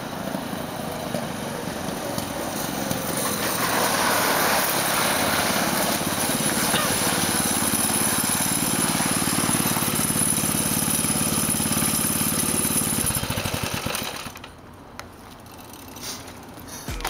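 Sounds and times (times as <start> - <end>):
small engine idling: 0.0 - 14.6.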